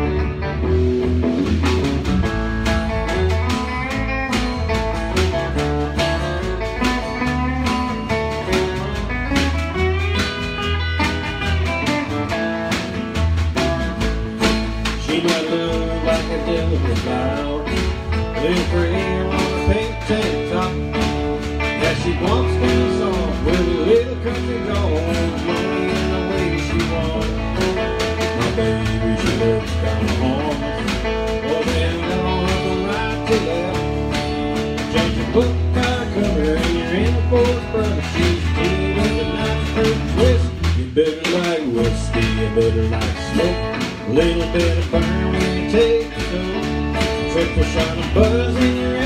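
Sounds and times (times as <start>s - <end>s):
country band playing: 0.0s - 49.0s.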